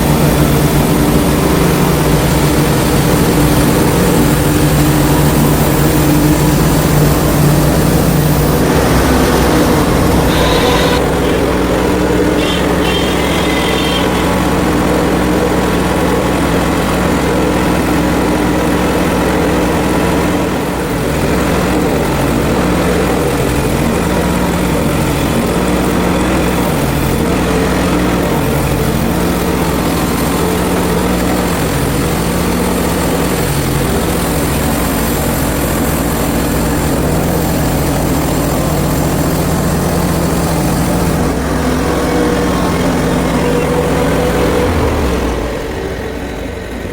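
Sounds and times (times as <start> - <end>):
sawmill engine humming: 0.0 - 46.9.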